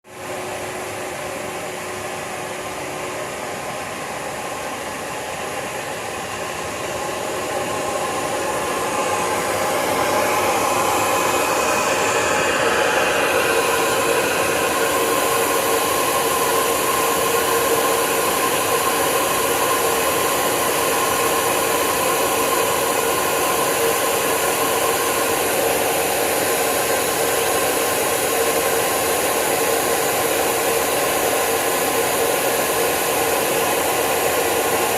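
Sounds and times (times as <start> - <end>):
wood router spindle whirring: 5.4 - 34.9.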